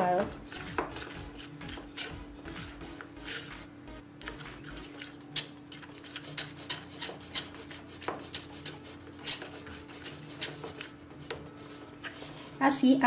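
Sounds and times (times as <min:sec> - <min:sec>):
stick stirring sticky slime: 0:00.0 - 0:12.7.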